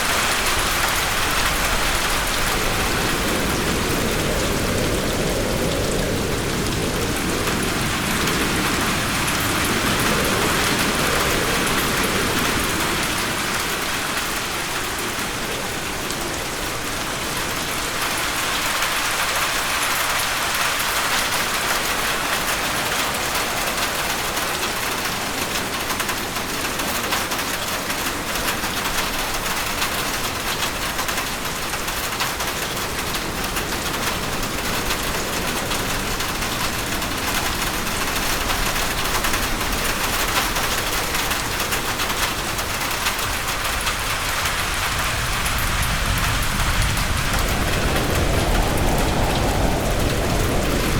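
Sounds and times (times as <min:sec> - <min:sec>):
heavy rain on a roof: 0:00.0 - 0:50.9.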